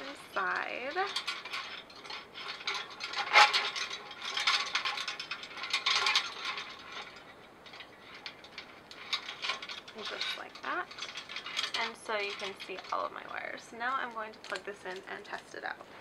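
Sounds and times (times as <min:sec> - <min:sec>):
light bulbs rattling against wire cage: 0:00.0 - 0:15.8.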